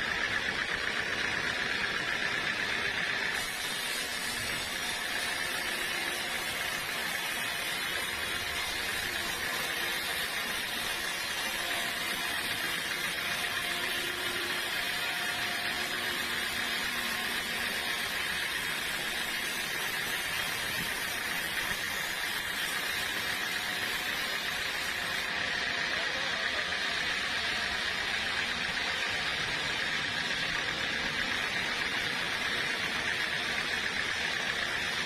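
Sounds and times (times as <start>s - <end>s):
sawmill saw running: 0.0s - 35.0s.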